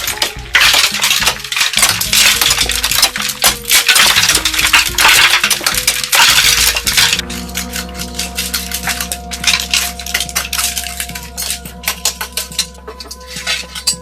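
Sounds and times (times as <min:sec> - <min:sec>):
background music with held notes: 0:00.0 - 0:14.0
rapid clinking and tapping: 0:00.0 - 0:14.0.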